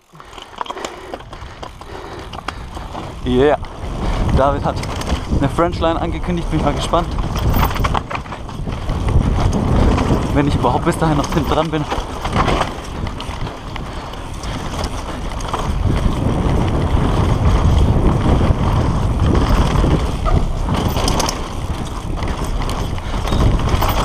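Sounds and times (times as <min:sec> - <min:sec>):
bike rattling and clicking: 0:00.0 - 0:24.0
tyres rolling on dirt: 0:00.0 - 0:24.0
wind buffeting microphone: 0:00.8 - 0:24.0.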